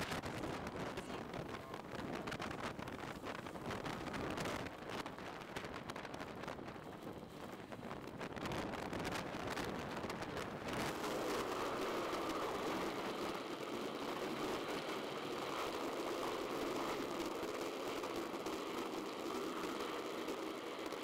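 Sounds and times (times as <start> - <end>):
wind on microphone: 0.0 - 18.8
tyres on wet pavement: 0.0 - 21.0.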